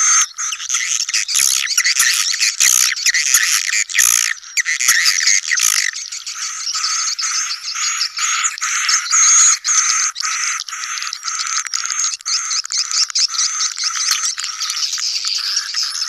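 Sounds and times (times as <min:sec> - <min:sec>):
swiftlets chirping and twittering: 0:00.0 - 0:16.0.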